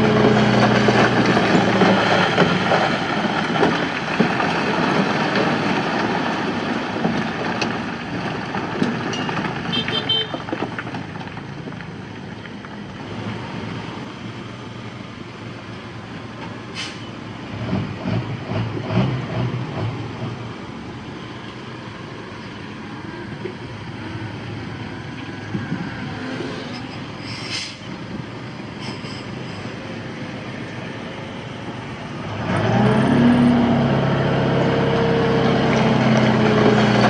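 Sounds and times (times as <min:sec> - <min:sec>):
heavy diesel machinery running: 0:00.0 - 0:10.5, 0:12.8 - 0:37.0.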